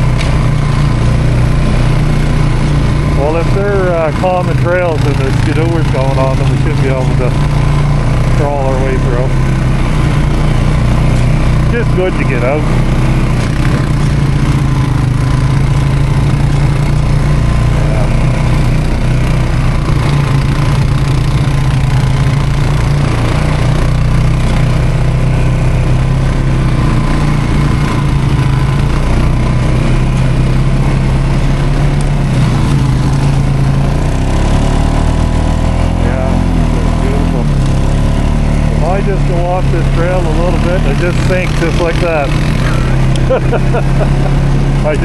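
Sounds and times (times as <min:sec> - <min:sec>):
quad engine running at low speed: 0:00.0 - 0:45.0.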